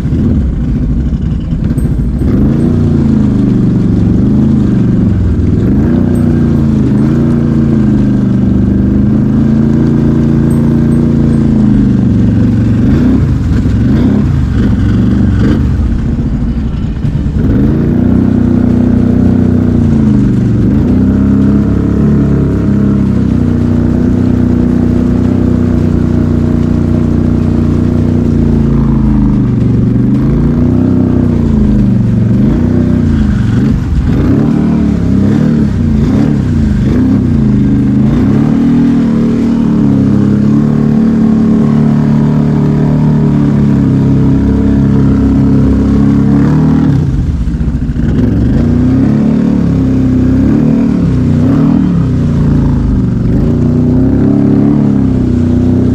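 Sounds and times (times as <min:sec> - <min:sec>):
quad bike engine revving: 0:00.0 - 0:55.9.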